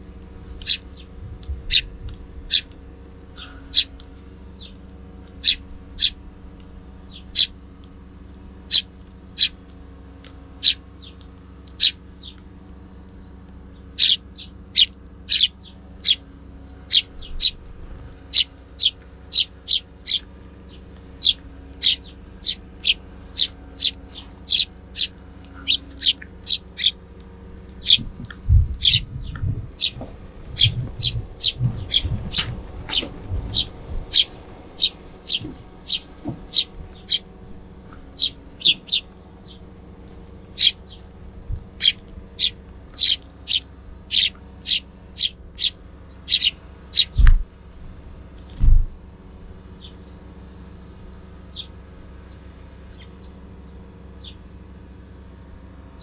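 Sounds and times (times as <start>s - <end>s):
sparrows chirping: 0.0s - 55.1s
faint steady hum: 0.0s - 56.0s.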